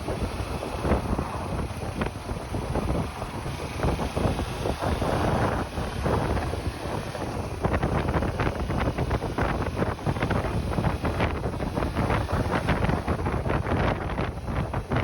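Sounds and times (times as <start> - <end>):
motorcycle engine and road rumble: 0.0 - 15.0
wind buffeting microphone: 0.0 - 15.0.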